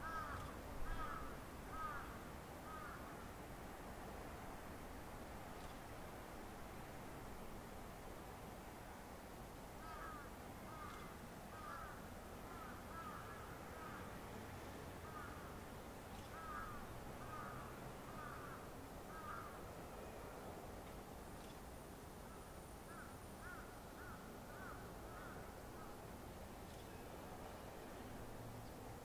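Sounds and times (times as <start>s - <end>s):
faint background noise: 0.0s - 29.0s.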